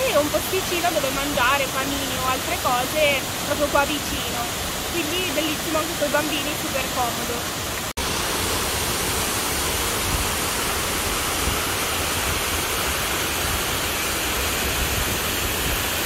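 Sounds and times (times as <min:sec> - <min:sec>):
waterfall crashing onto rocks: 0:00.0 - 0:16.0.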